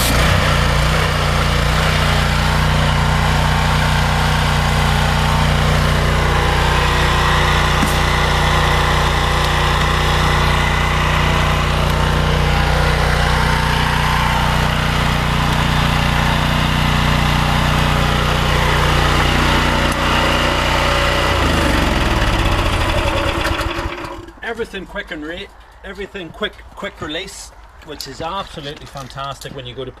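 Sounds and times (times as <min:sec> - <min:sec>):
pressure washer engine running: 0:00.0 - 0:24.4.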